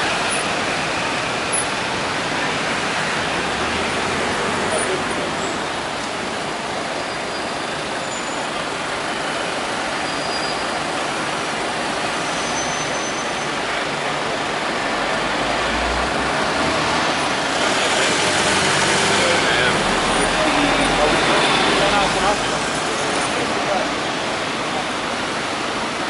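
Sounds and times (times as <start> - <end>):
low traffic rumble: 0.0 - 26.0
passing vehicles hiss: 0.0 - 26.0.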